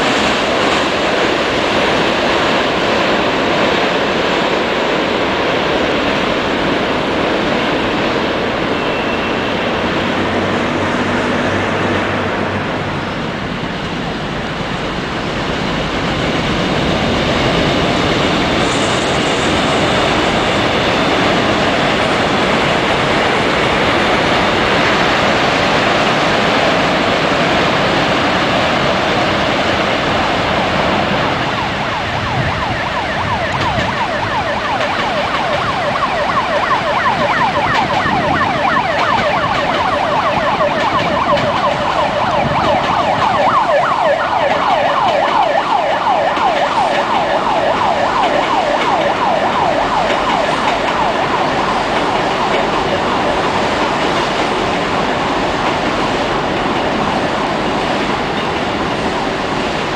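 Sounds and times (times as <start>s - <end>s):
train rattling past close by: 0.0s - 59.9s
train wheels rumbling on rails: 0.0s - 59.9s.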